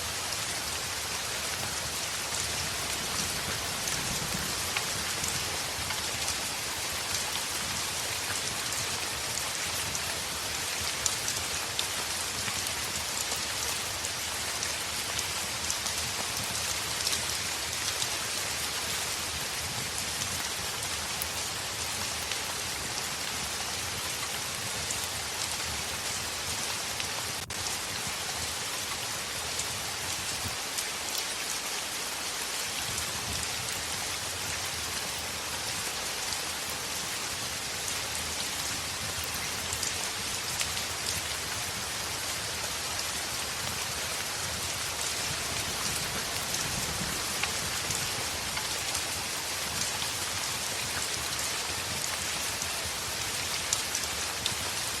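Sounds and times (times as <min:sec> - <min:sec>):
heavy rain on a window: 0:00.0 - 0:55.0.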